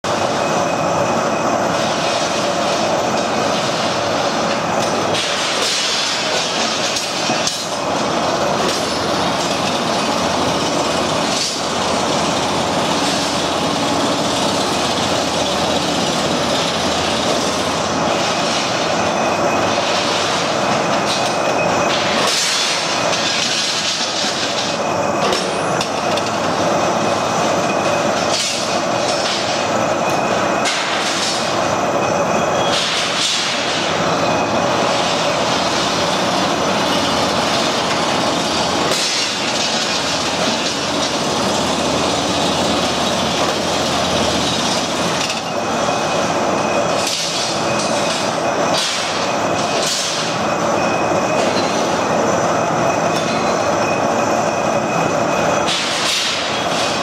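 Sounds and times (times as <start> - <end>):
machine clatter and hum: 0.0 - 57.0.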